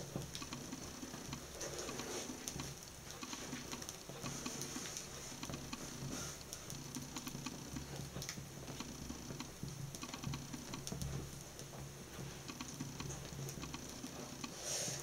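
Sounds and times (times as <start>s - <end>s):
faint steady hum: 0.0s - 15.0s
shoe burning with crackling pops: 0.0s - 15.0s.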